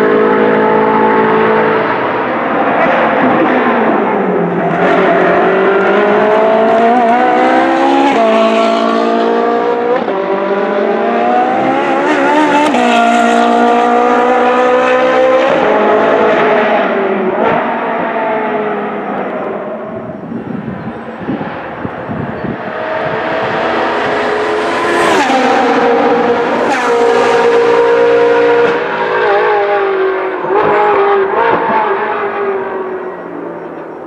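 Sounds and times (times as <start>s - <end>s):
racing car engine at full throttle: 0.0s - 34.0s.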